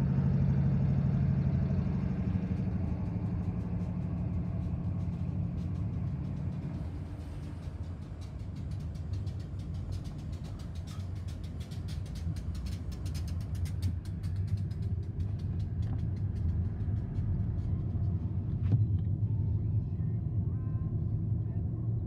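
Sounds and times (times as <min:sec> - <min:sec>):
freight train rumbling: 0:00.0 - 0:22.0.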